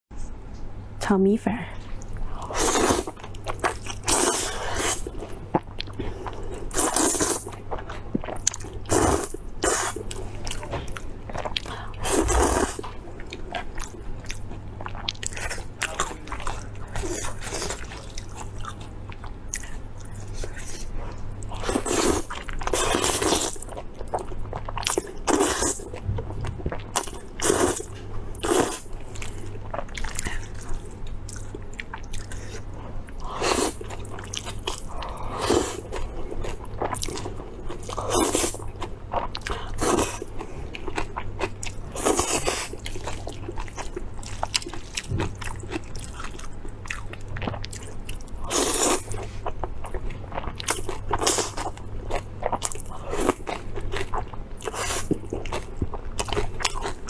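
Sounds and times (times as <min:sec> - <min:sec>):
person chewing crunchy food: 0:01.9 - 0:57.0.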